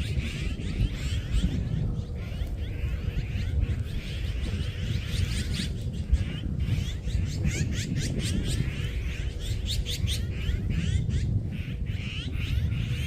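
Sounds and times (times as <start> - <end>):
flock of small birds chirping: 0.0 - 13.0
steady low rumble: 0.0 - 13.0.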